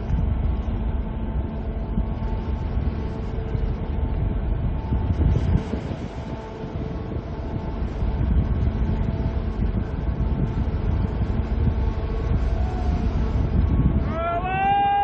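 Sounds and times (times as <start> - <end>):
freighter passing rumble: 0.0 - 15.0
ship horn steady note: 0.0 - 15.0.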